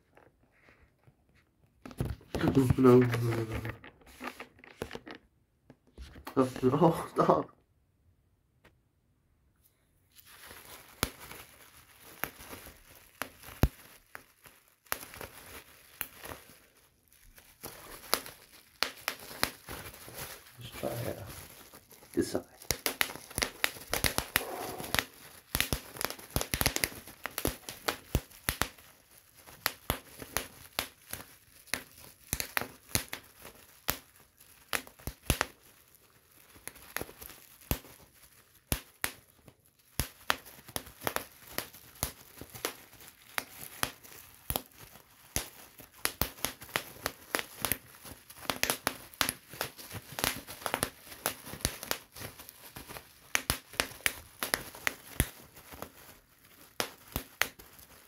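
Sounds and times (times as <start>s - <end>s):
bubble wrap popping: 1.6s - 5.3s, 10.1s - 58.0s
plastic sheet crinkling: 1.8s - 5.2s, 10.1s - 58.0s.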